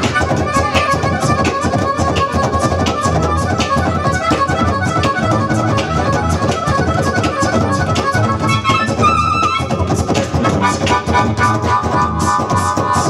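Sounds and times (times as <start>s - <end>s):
amplified harmonica: 0.0s - 13.0s
electric guitar: 0.0s - 13.0s.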